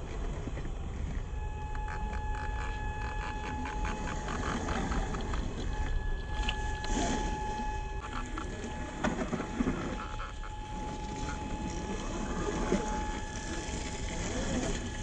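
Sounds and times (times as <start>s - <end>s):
toy truck motor whine: 1.4s - 15.0s.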